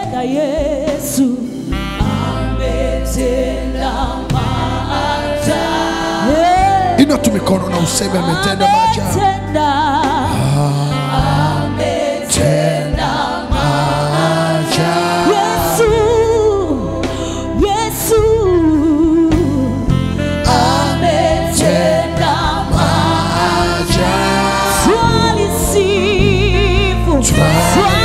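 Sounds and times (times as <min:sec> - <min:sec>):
voices singing gospel song: 0:00.0 - 0:28.0
steady bass line: 0:01.2 - 0:28.0.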